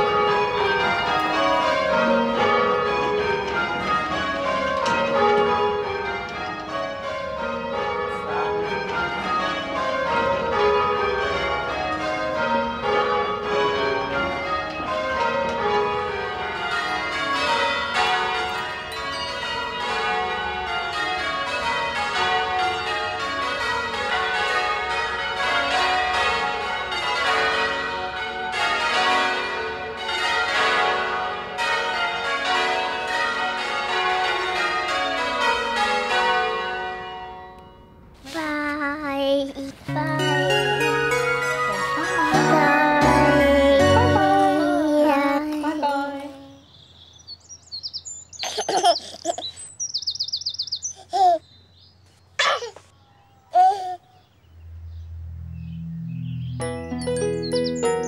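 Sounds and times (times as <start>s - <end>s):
church bells change ringing: 0.0s - 38.3s, 39.8s - 46.9s, 54.2s - 58.0s.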